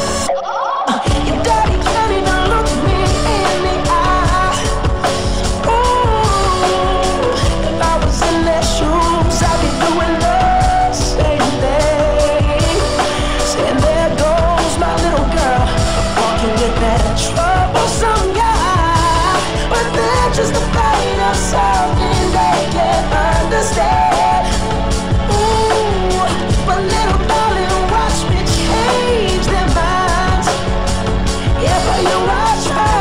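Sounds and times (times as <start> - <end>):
band with steady beat: 0.0 - 0.3, 1.1 - 33.0
man singing pop ballad: 0.0 - 33.0.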